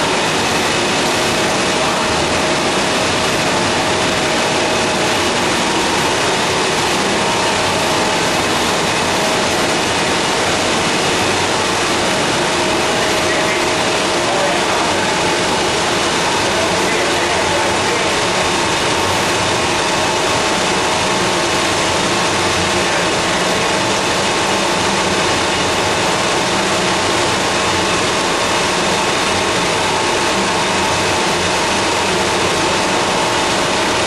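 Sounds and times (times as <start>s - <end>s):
paper machine running: 0.0s - 34.0s
steady hum tones: 0.0s - 34.0s.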